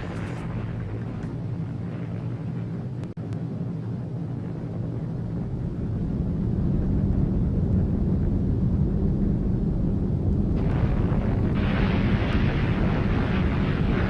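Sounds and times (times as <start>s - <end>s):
deep rumble of explosion: 0.0s - 14.0s.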